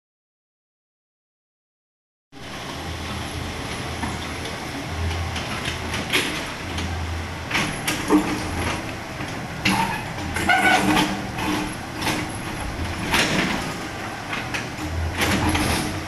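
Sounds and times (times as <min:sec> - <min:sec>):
excavator engine humming: 0:02.4 - 0:16.0.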